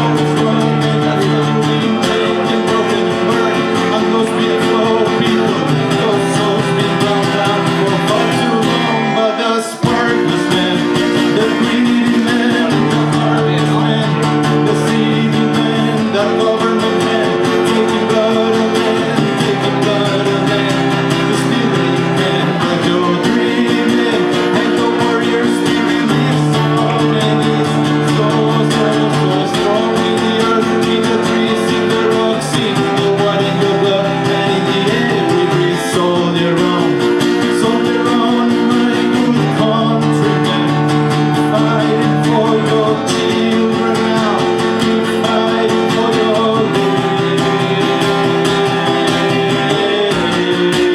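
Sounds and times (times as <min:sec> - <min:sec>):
acoustic guitar strumming: 0:00.0 - 0:50.9.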